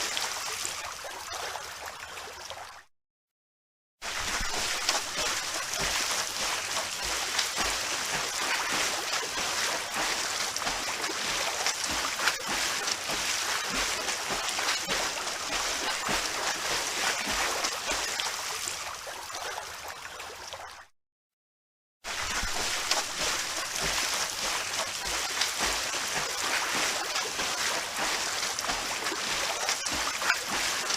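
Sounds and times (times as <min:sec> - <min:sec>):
water splashing from swimming: 0:00.0 - 0:02.9, 0:04.0 - 0:20.9, 0:22.1 - 0:30.9.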